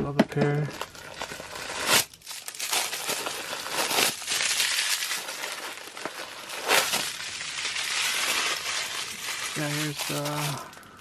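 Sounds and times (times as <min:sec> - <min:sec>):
paper crinkling and rustling: 0:00.7 - 0:11.0.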